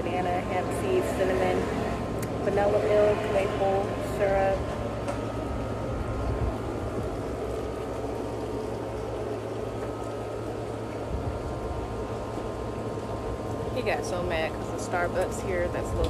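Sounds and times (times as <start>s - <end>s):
low mechanical hum and rumble: 0.0s - 16.0s.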